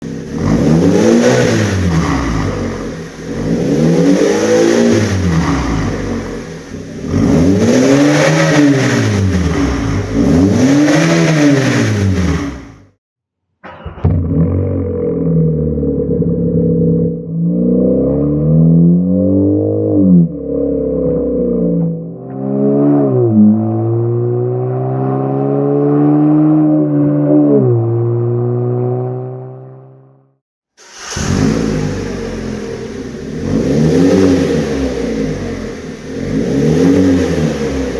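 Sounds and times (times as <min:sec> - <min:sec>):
car engine revving: 0:00.0 - 0:13.0, 0:13.8 - 0:30.1, 0:30.9 - 0:37.9.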